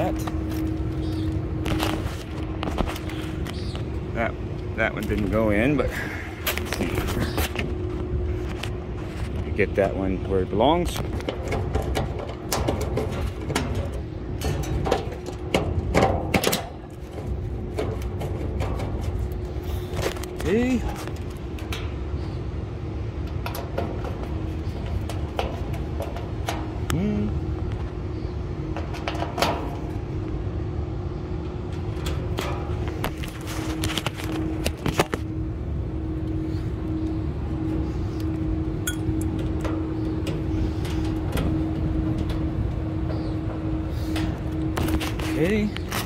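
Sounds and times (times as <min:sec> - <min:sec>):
machinery hum: 0:00.0 - 0:46.0.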